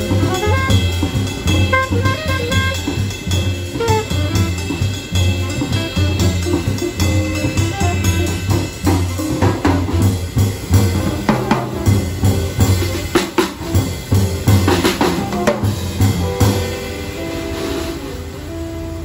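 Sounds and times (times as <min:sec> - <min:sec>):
band holding notes: 0:00.0 - 0:19.0
jazz drum kit playing: 0:00.0 - 0:19.0.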